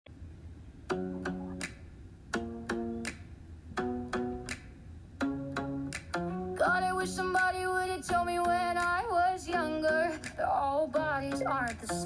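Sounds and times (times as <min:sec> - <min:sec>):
guitar strumming chords: 0:00.9 - 0:01.7, 0:02.3 - 0:04.6, 0:05.2 - 0:12.0.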